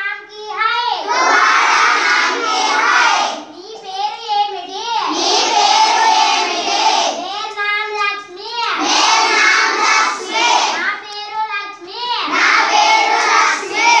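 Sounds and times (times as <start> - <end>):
children chanting in unison: 0.8 - 3.5, 4.8 - 8.0, 8.7 - 14.0.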